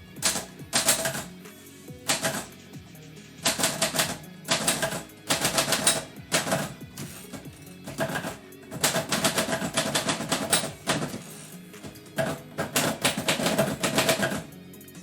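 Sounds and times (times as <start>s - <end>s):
background music: 0.0s - 15.0s
typewriter keys clacking: 0.2s - 1.3s, 2.1s - 2.5s, 3.4s - 14.5s.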